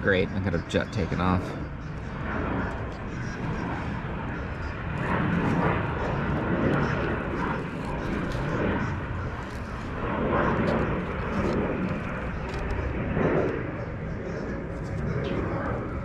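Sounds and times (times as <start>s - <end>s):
jet aircraft taking off: 0.0s - 16.0s.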